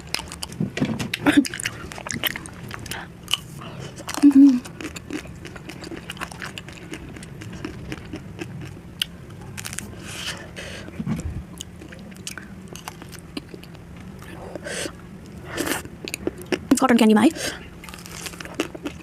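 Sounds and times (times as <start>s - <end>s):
person biting and chewing food: 0.0s - 14.6s, 17.8s - 19.0s.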